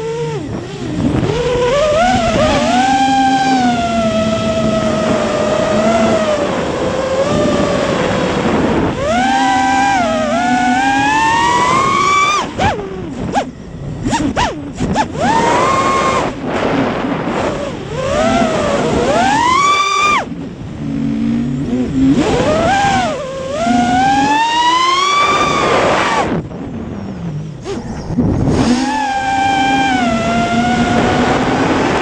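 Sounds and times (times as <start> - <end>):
drone motors whining: 0.0 - 32.0
rushing wind noise: 0.0 - 32.0.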